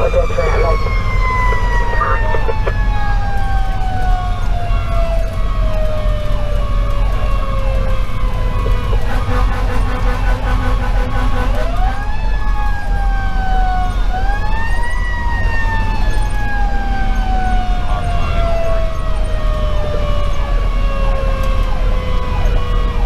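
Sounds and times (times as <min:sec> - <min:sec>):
diesel engine rumble: 0:00.0 - 0:23.0.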